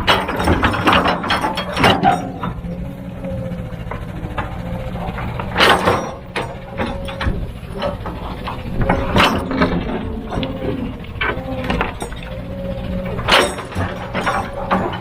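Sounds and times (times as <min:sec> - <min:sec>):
diesel engine running: 0:00.0 - 0:15.0
metallic clanking: 0:00.0 - 0:15.0
steady whine: 0:00.0 - 0:15.0.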